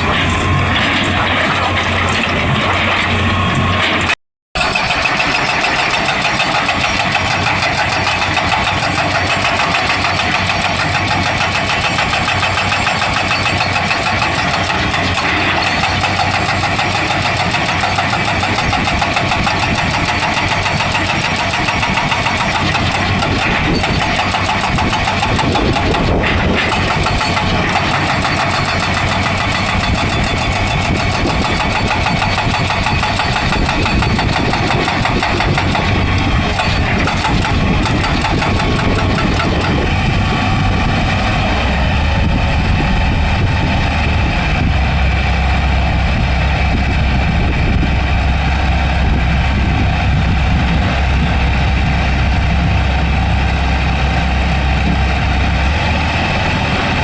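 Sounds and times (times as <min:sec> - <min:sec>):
hydraulic breaker hammer rattling: 0:00.0 - 0:48.2
excavator engine running: 0:00.0 - 0:57.0.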